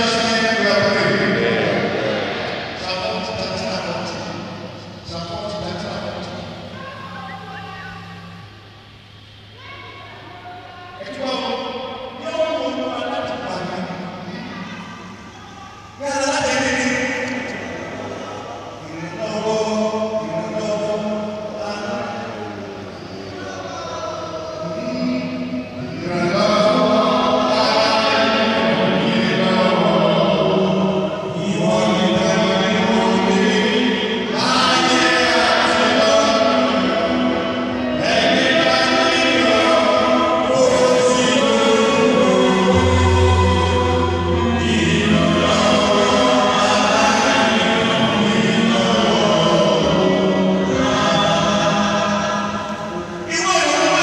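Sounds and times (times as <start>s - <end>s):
congregation singing long notes: 0.0s - 9.8s, 10.9s - 54.0s.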